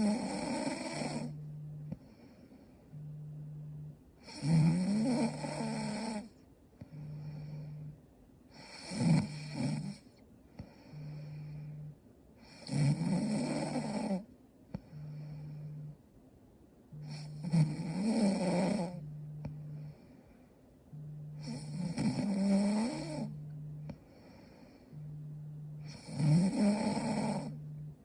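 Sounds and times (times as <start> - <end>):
woman snoring: 0.0 - 3.2, 3.8 - 16.0, 16.9 - 20.1, 20.9 - 27.9
quiet breath: 1.0 - 5.0, 5.6 - 13.0, 13.6 - 17.7, 18.6 - 28.0.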